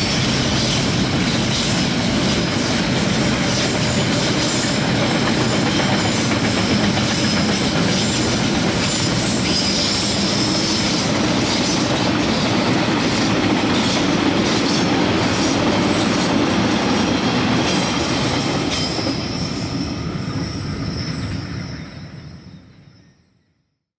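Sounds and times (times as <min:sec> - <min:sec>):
freight train wagons rolling: 0:00.0 - 0:23.1
thin high wheel squeal: 0:00.0 - 0:23.3.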